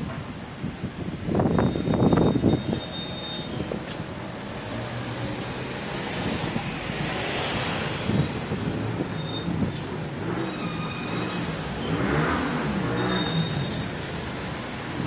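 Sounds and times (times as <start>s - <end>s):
rumble of trams and traffic: 0.0s - 15.0s
tram wheels squealing on rails: 1.4s - 15.0s.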